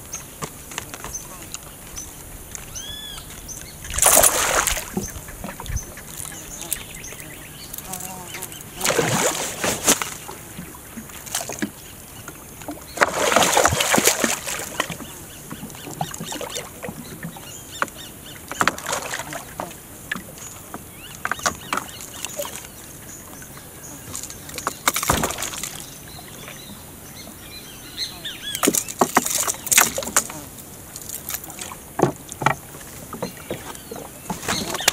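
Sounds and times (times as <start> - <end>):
water splashing around boat: 0.0 - 34.9.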